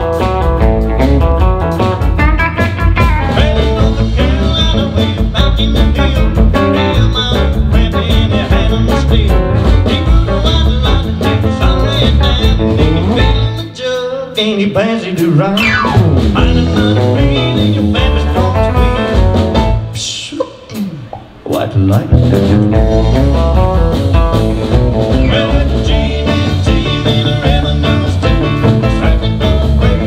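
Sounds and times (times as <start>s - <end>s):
live country band playing: 0.0s - 30.0s.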